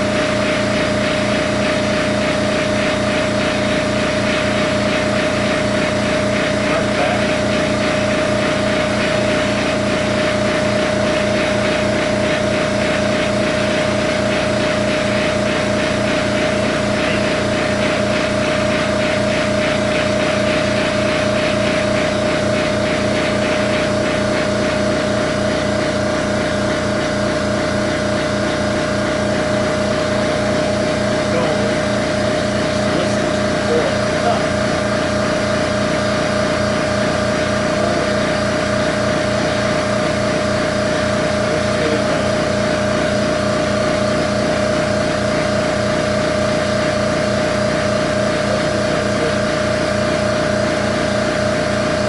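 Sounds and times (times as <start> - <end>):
air compressor chugging: 0.0 - 52.0.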